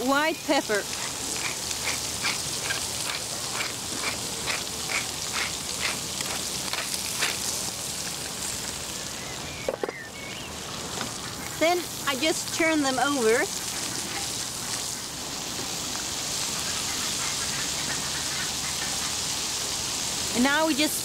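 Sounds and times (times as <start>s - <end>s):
scallops sizzling in a frying pan: 0.0s - 21.0s.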